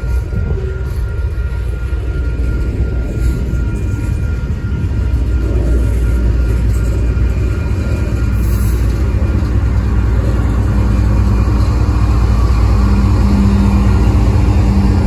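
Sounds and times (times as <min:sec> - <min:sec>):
diesel locomotive engine rumble: 0:00.0 - 0:15.0
train wheels on rails: 0:00.0 - 0:15.0.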